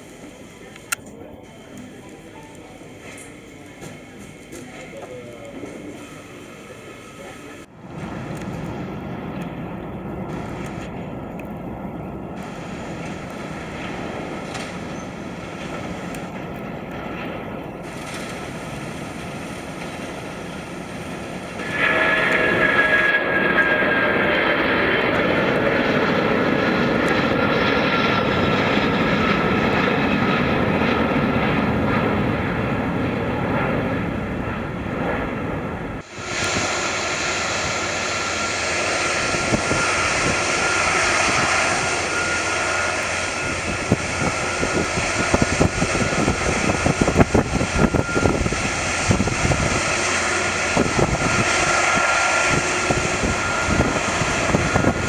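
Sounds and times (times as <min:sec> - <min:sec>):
high jet whine: 0:00.0 - 0:55.0
jet engines at takeoff power: 0:00.0 - 0:55.0.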